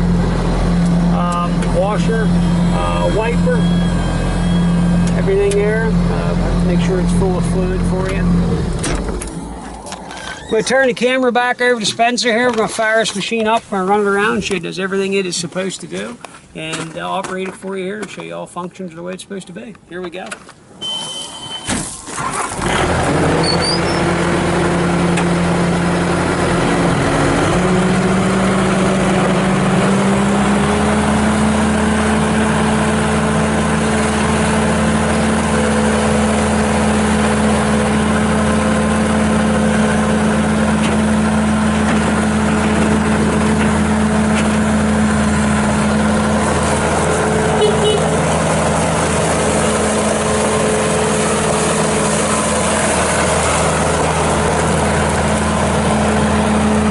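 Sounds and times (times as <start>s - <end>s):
diesel engine starting and running: 0.0s - 17.5s, 20.6s - 56.9s.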